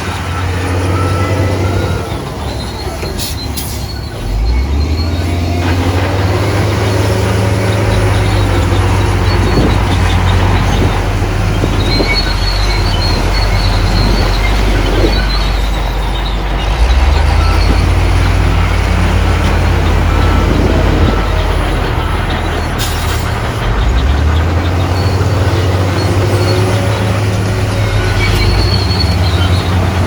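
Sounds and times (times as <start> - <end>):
heavy diesel machinery running: 0.0 - 30.0
high metallic squeals: 0.0 - 30.0.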